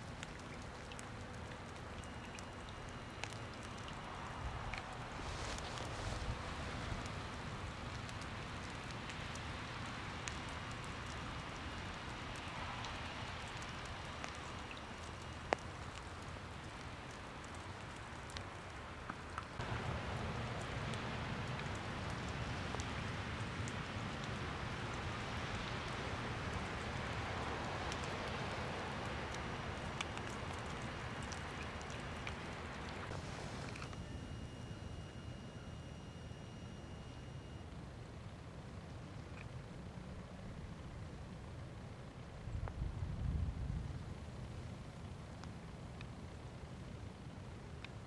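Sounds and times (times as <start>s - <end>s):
hiss over low rumble: 0.0s - 48.0s.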